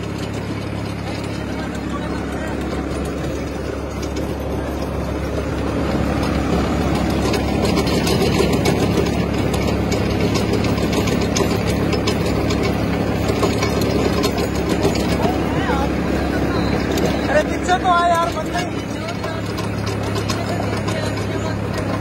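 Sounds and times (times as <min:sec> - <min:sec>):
rotavator churning soil: 0:00.0 - 0:22.0
tractor diesel engine under load: 0:00.0 - 0:22.0.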